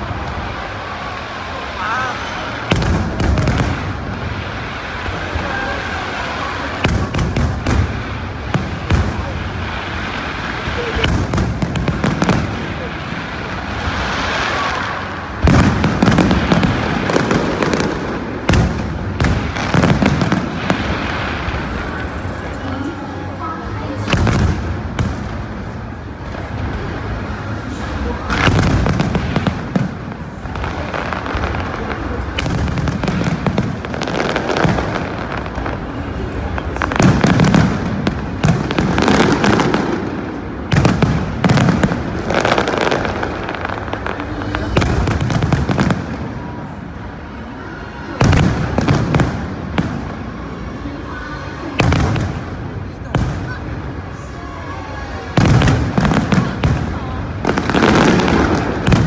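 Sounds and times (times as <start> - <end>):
fireworks bangs and crackling: 0.0 - 59.0
people's voices: 0.0 - 59.0.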